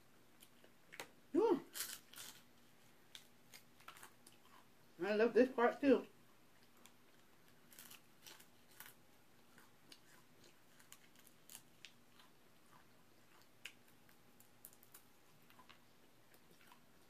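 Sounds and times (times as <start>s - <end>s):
crunching chicken: 0.4s - 4.7s, 6.6s - 17.0s.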